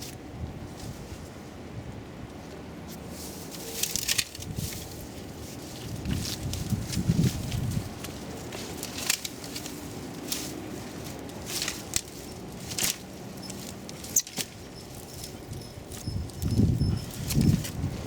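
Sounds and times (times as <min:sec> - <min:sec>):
soil and roots crackling: 0:02.2 - 0:18.0
heavier handling noise: 0:02.3 - 0:18.0.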